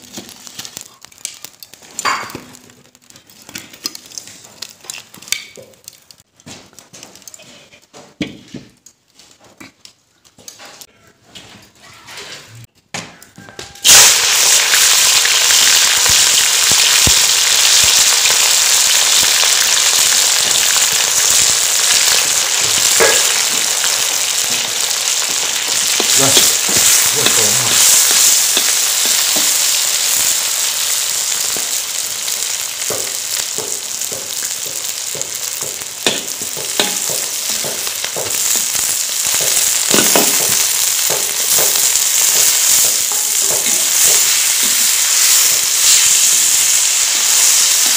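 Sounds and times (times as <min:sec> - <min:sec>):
peppers sizzling in hot oil: 0:00.0 - 0:09.8, 0:13.4 - 0:47.9.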